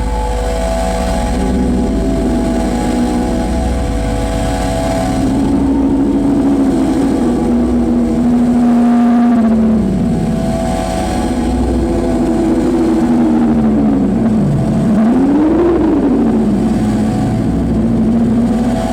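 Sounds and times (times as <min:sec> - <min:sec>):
distorted noise music: 0:00.0 - 0:18.9
droning tones bending in pitch: 0:00.0 - 0:18.9.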